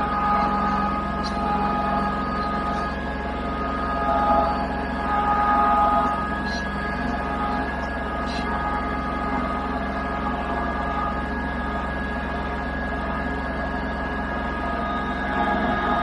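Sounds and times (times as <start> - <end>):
tractor engine running steadily: 0.0 - 16.0.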